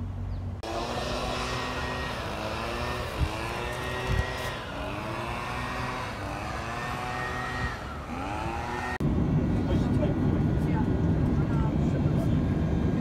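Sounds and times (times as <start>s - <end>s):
vehicle engines passing: 0.0s - 13.0s.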